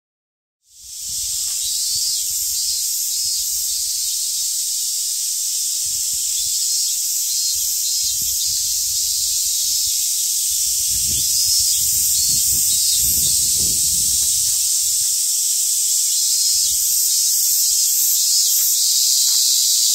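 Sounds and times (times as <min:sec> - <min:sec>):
cicadas buzzing: 0:00.7 - 0:19.9.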